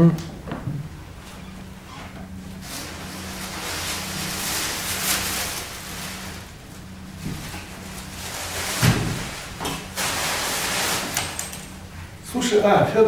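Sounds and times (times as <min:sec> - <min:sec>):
steady low hum: 0:00.0 - 0:13.0
canvases and frames scraping: 0:00.8 - 0:11.8.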